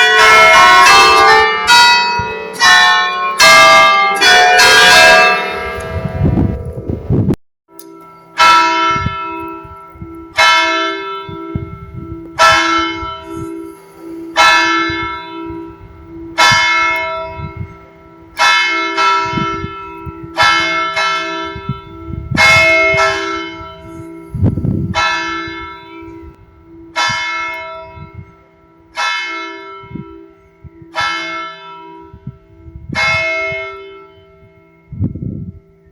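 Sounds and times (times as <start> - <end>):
peal of bells: 0.0 - 7.0, 7.7 - 35.9
church bell tolling: 0.0 - 7.1, 7.7 - 35.9.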